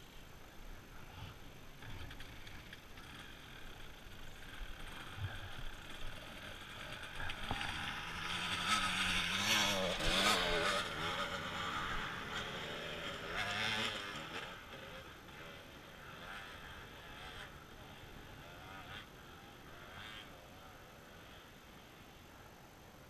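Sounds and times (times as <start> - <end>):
motorbike engine revving: 1.8 - 20.8.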